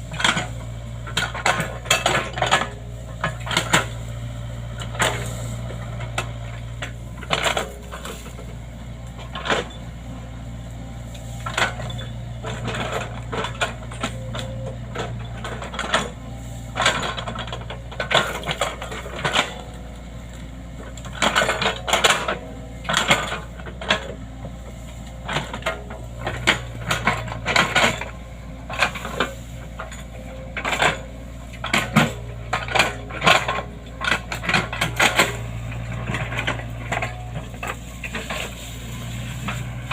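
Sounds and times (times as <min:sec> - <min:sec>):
excavator engine humming: 0:00.0 - 0:39.9
metallic clanks and knocks: 0:00.1 - 0:39.9.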